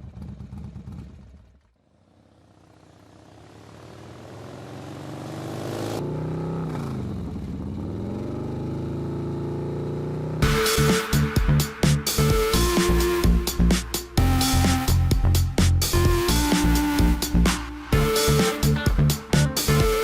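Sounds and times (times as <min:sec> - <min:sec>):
motor vehicle engine running: 0:00.0 - 0:20.0.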